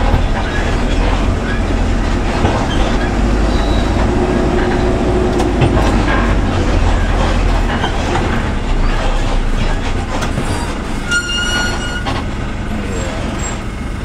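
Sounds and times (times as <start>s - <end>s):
bus body rattling and knocking: 0.0s - 14.0s
bus engine rumbling: 0.0s - 14.0s.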